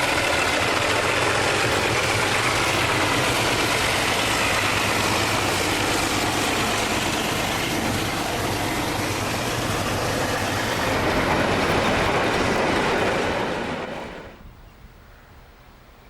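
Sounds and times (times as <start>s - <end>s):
train rail noise: 0.0s - 14.5s
diesel locomotive engine: 0.0s - 14.9s.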